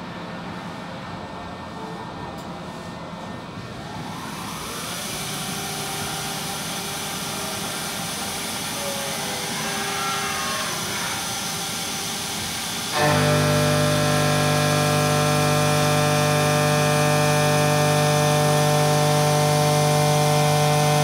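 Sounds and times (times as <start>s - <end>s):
milling cutter whine: 3.8s - 21.0s
machine spindle spinning: 4.0s - 21.0s.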